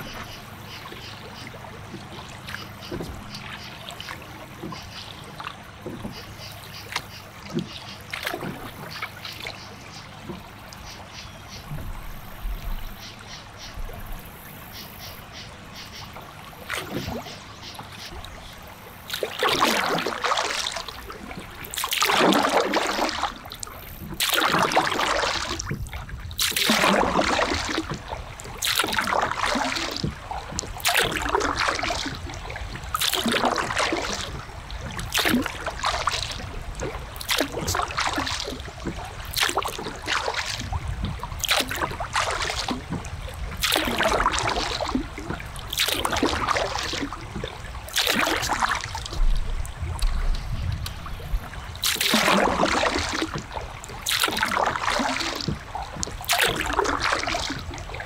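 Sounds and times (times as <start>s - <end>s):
paddle strokes splashing water: 0.0s - 58.0s
water trickling and dripping: 0.0s - 58.0s.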